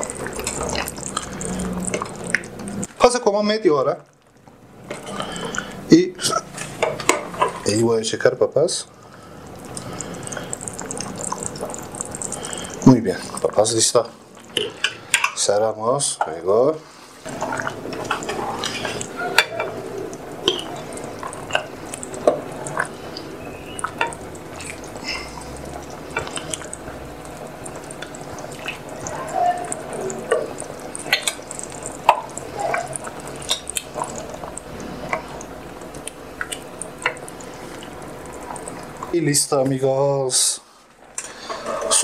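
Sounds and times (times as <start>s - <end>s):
soup splashing: 0.0s - 3.1s, 4.0s - 7.8s, 8.9s - 15.4s, 16.8s - 39.2s.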